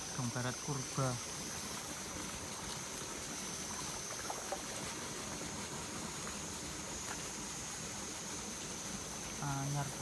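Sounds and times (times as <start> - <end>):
high-pitched insect drone: 0.0 - 4.5, 6.4 - 10.0.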